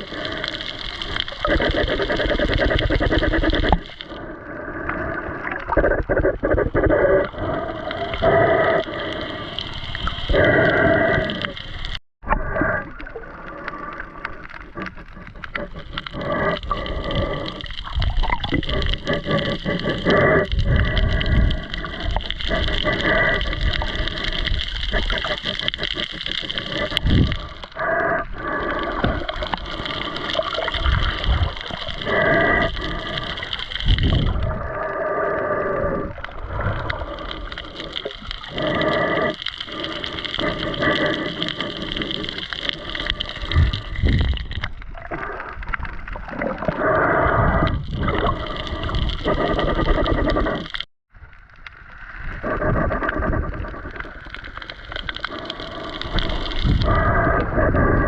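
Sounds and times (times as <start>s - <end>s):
steady underwater hiss: 0.0s - 50.8s, 51.7s - 58.0s
water sloshing underwater: 0.0s - 58.0s.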